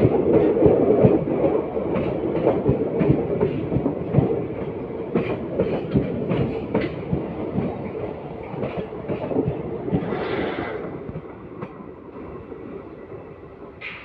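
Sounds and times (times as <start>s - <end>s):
train wheels clattering over rail joints: 0.0s - 14.0s.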